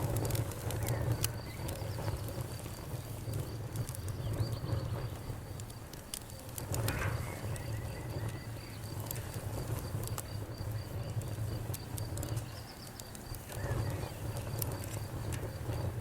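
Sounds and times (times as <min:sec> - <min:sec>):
low rumble of burning: 0:00.0 - 0:16.0
sharp pops and snaps: 0:00.0 - 0:16.0
wood fire crackling: 0:00.0 - 0:16.0.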